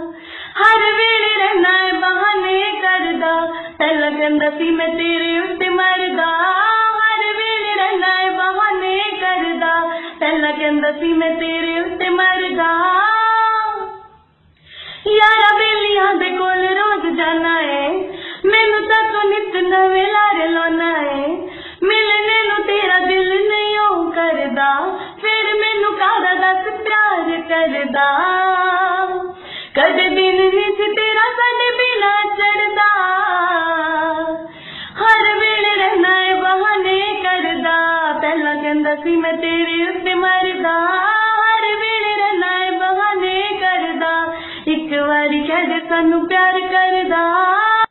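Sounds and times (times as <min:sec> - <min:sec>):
woman singing: 0:00.0 - 0:14.2, 0:15.0 - 0:47.9.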